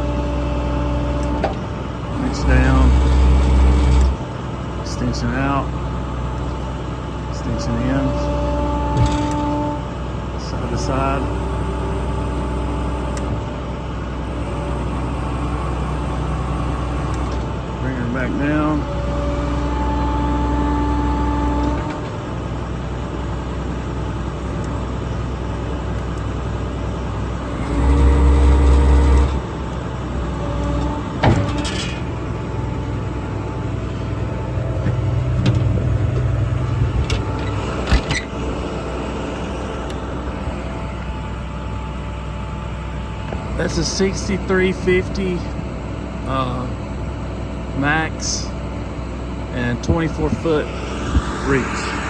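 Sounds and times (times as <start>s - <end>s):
diesel truck engine running: 0.0s - 52.0s
hydraulics whining: 0.0s - 52.0s.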